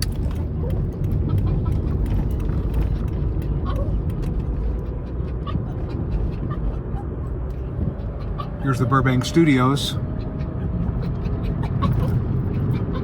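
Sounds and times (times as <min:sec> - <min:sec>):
car cabin road noise: 0:00.0 - 0:13.0
dog whimpering: 0:00.6 - 0:13.0.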